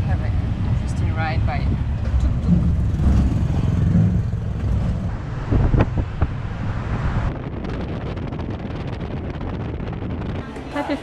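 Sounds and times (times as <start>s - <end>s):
tuk-tuk running: 0.0s - 11.0s
wind buffeting microphone: 0.0s - 11.0s.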